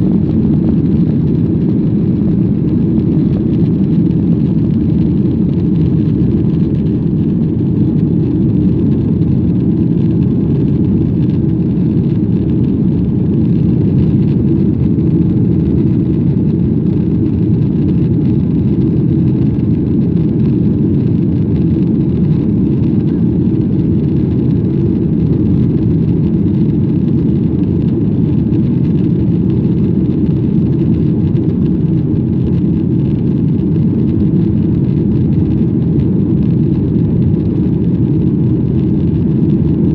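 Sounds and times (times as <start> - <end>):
airplane engines rumbling: 0.0 - 39.9.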